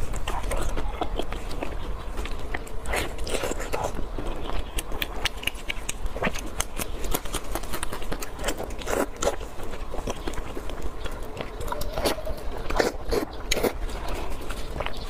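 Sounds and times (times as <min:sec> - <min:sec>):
chewing and lip smacking: 0:00.0 - 0:15.0
meat skin crackling as torn: 0:00.0 - 0:15.0.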